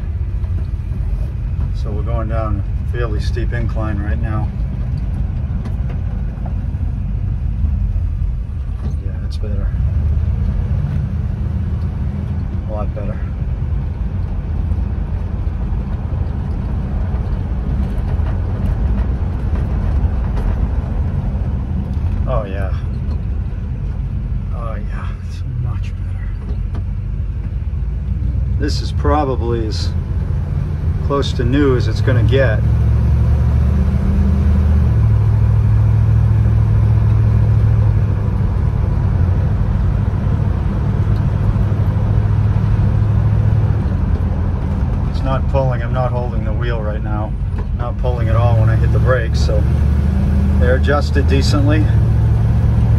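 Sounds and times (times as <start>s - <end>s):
car engine rumble: 0.0s - 52.9s
road noise: 0.0s - 52.9s.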